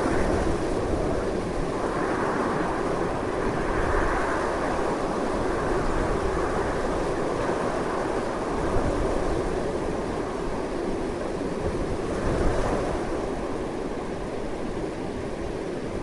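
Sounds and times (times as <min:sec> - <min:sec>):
strong wind blowing: 0:00.0 - 0:16.0.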